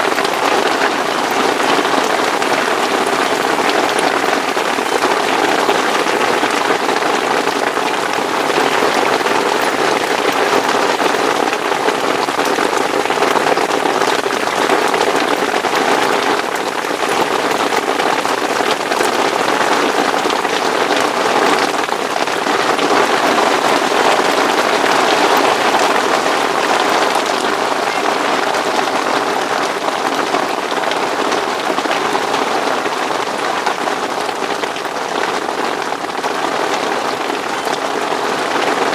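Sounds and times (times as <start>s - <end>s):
heavy rain on fabric canopy: 0.0s - 38.9s.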